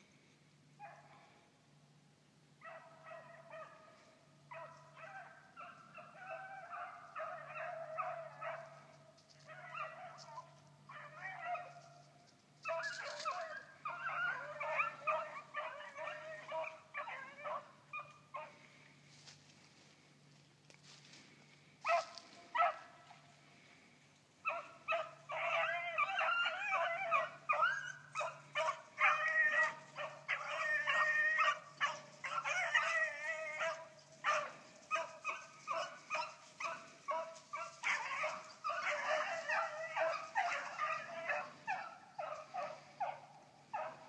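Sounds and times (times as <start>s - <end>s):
hounds baying: 2.6s - 19.9s, 21.8s - 44.0s.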